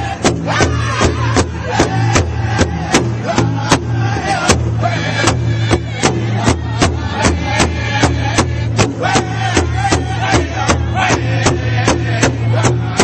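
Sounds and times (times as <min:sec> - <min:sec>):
steady drumbeat: 0:00.0 - 0:13.0
sustained low bass: 0:00.0 - 0:13.0.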